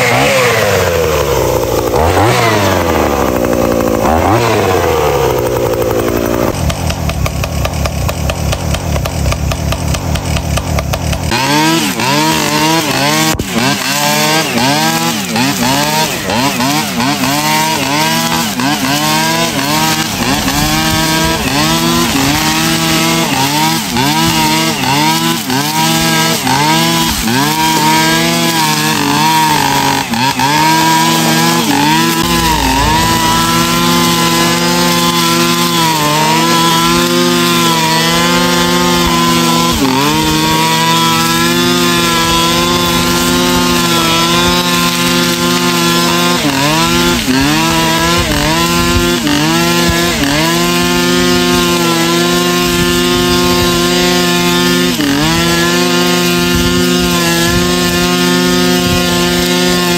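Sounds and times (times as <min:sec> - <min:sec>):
brush cutter cutting grass: 0:00.0 - 0:59.9.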